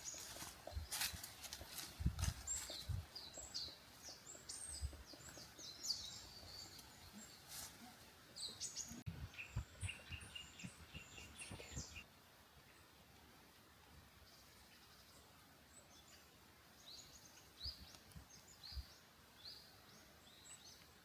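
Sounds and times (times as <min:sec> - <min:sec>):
small birds chirping: 0:00.0 - 0:13.0, 0:14.2 - 0:21.0.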